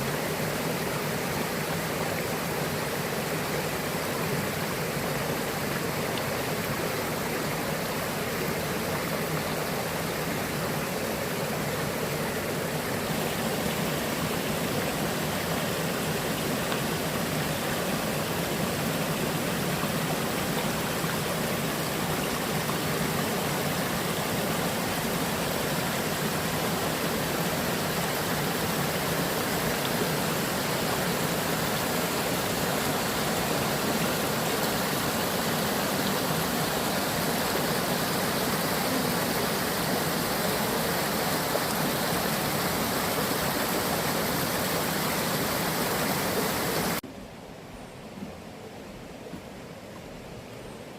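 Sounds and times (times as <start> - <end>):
stream rushing: 0.0 - 50.9.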